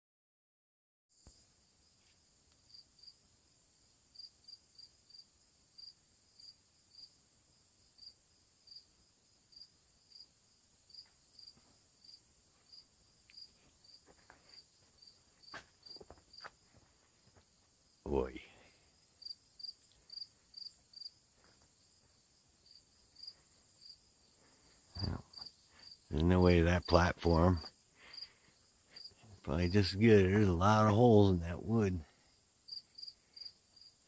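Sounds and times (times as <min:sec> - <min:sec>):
insects droning and chirping: 0:01.2 - 0:34.0.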